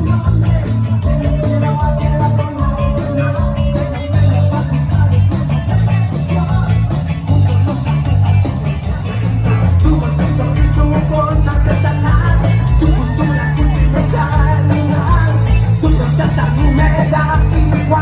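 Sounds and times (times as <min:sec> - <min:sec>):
bass line: 0:00.0 - 0:18.0
electric guitar: 0:00.0 - 0:18.0
steady drum beat: 0:00.0 - 0:18.0.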